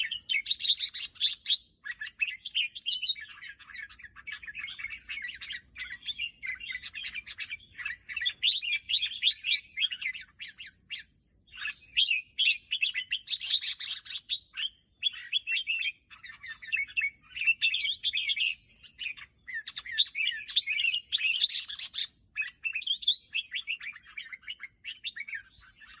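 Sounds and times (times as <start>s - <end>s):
bulbul chirping song: 0.0s - 26.0s.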